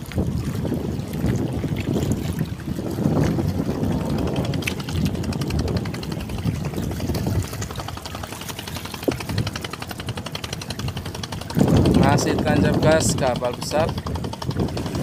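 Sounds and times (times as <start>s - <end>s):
boat engine clattering: 0.0s - 15.0s
wind buffeting microphone: 0.0s - 15.0s.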